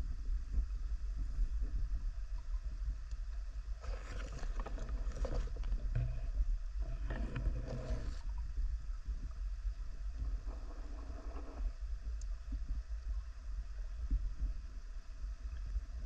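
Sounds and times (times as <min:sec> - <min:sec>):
underwater low rumble: 0:00.0 - 0:16.0.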